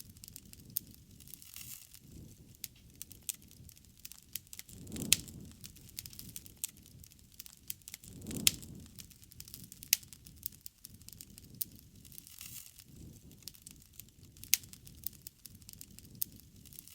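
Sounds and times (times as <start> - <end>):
bonfire crackling and popping: 0.0 - 16.9
low rush of flame: 0.0 - 16.9.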